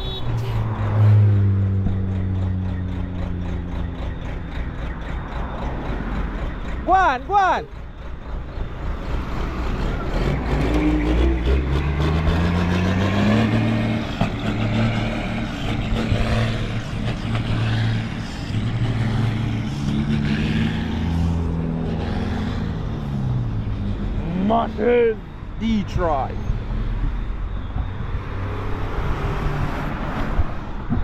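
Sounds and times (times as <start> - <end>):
diesel truck engine accelerating: 0.0 - 31.0.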